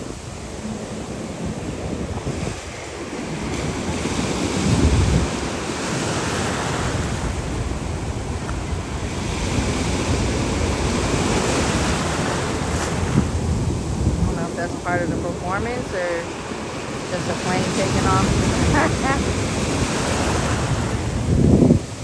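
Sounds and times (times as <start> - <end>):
ocean surf washing: 0.0 - 22.0
wind buffeting microphone: 0.0 - 22.0.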